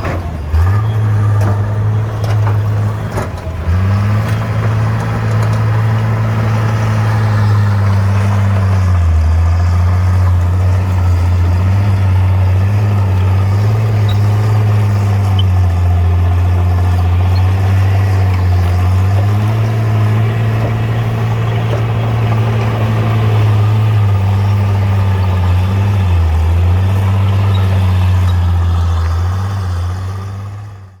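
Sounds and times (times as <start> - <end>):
bulldozer diesel engine humming: 0.0 - 31.0.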